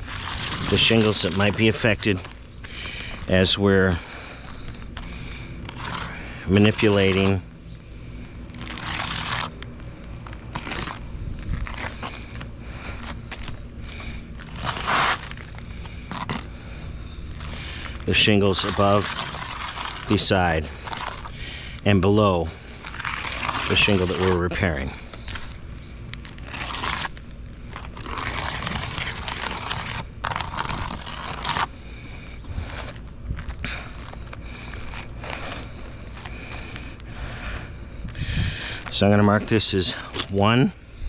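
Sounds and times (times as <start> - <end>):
roof shingles crunching: 0.0 - 40.6.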